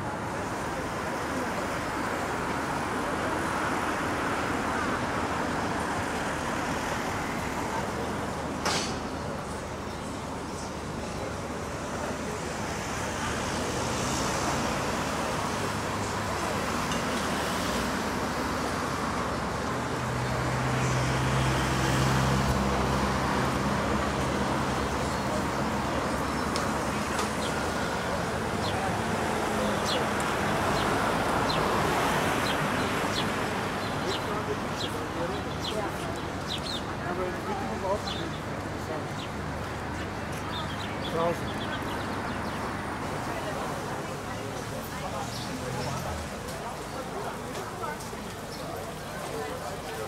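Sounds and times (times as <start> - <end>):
outdoor noise: 0.0 - 50.0
road traffic hum: 0.0 - 50.0
faint voices: 6.0 - 50.0.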